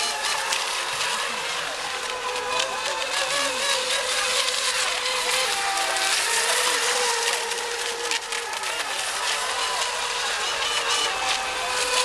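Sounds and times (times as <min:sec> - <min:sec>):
model boat motors whining: 0:00.0 - 0:12.0.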